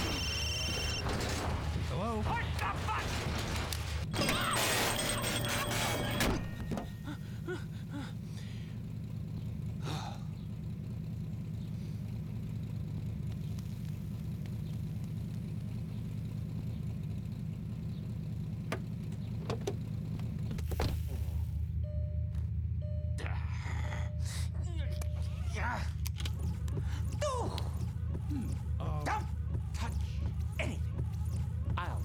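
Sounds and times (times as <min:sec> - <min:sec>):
car engine idling: 0:05.0 - 0:32.0.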